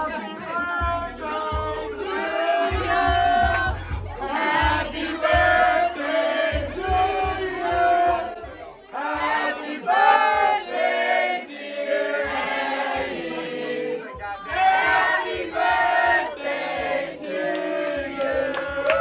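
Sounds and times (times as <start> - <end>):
group singing and chanting: 0.0 - 19.0.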